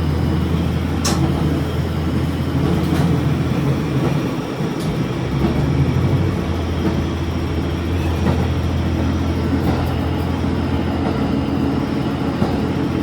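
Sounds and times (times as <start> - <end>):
railcar engine drone: 0.0 - 13.0.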